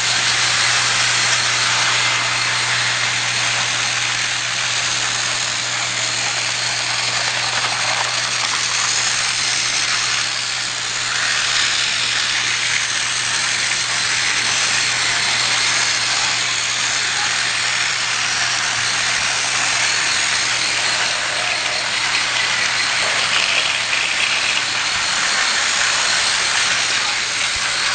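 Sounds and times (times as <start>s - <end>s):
toy train motor whirring: 0.0s - 27.9s.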